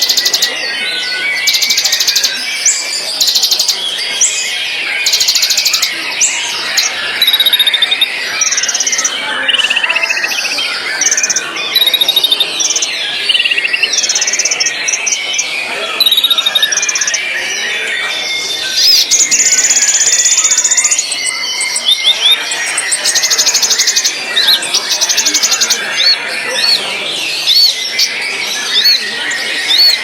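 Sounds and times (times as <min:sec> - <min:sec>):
bird singing whistles and trills: 0:00.0 - 0:30.0.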